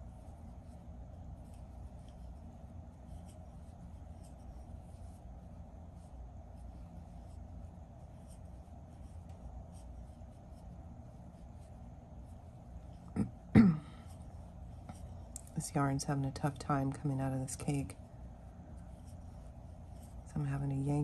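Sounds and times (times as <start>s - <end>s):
crochet hook rubbing yarn: 0.0s - 13.5s, 14.1s - 21.0s
steady low hum: 0.0s - 21.0s.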